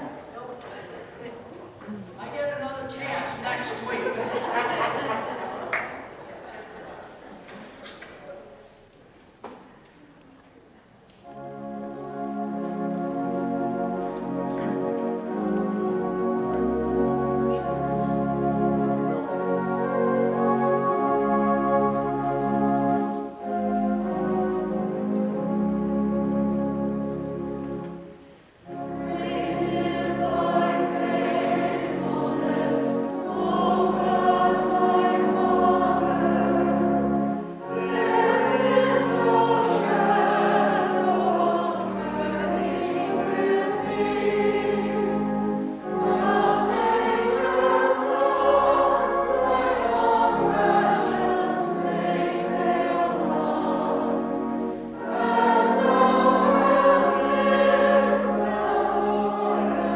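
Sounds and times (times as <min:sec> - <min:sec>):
women's choir singing a hymn: 0:03.5 - 0:07.5, 0:11.2 - 0:27.4, 0:28.6 - 0:59.9.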